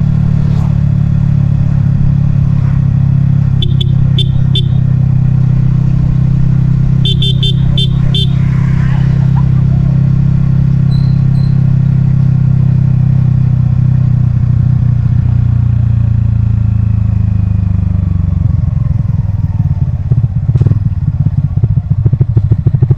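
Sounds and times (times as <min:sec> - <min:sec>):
motorcycle engine and exhaust running: 0:00.0 - 0:22.9.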